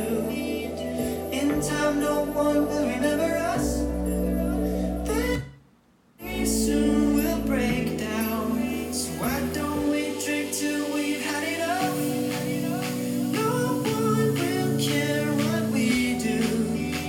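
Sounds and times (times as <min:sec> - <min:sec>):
pop song with singing on speaker: 0:00.0 - 0:05.6, 0:06.2 - 0:17.0.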